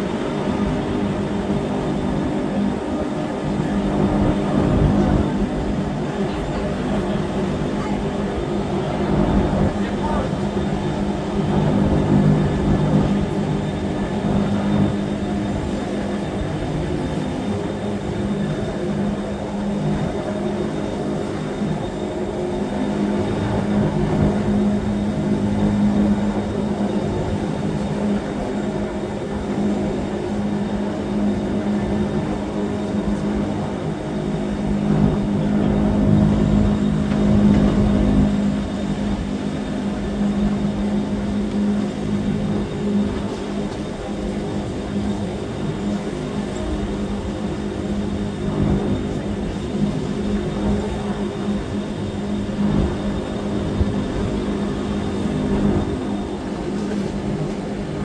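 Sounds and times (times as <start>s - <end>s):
electric train humming: 0.0s - 58.0s.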